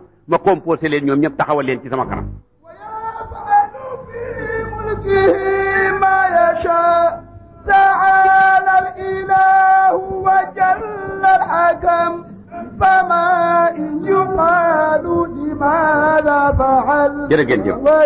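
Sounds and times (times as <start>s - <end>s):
person singing a slow chant: 2.6s - 18.0s.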